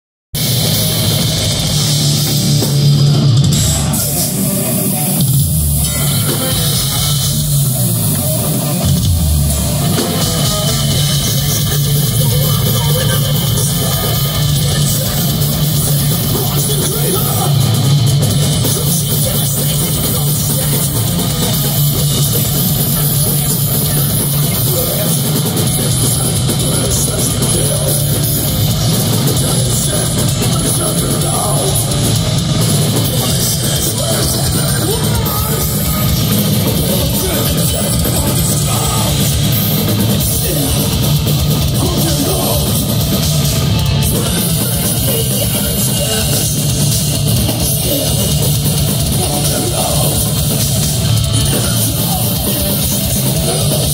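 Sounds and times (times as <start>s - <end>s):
bass guitar: 0.3s - 53.9s
distorted electric guitars: 0.3s - 53.9s
drum kit: 0.4s - 53.9s.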